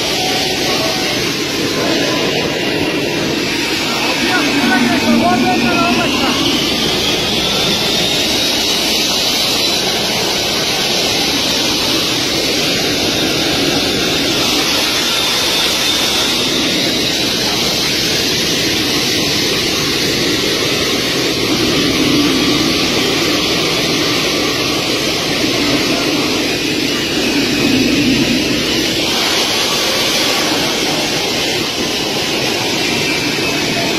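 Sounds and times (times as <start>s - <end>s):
high engine whine: 0.0s - 33.9s
jet engines roaring: 0.0s - 33.9s.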